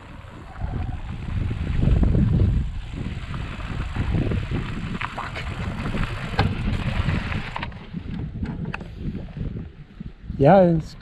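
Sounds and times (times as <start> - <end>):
bicycle tyres on gravel: 0.0 - 10.8
wind rumble on microphone: 0.0 - 11.0.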